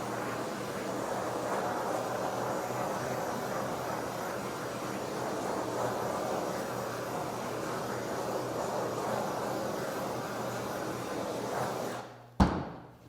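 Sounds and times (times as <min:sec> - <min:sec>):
gas torch flame blowing: 0:00.0 - 0:12.2.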